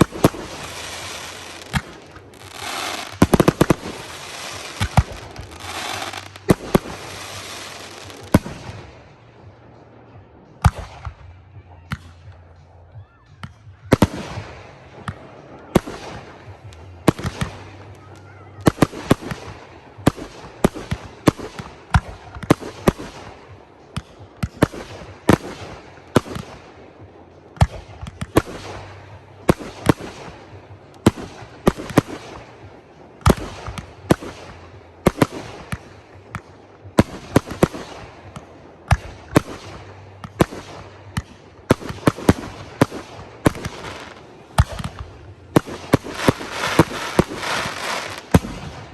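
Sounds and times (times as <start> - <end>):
fireworks bangs and crackle: 0.0 - 48.9.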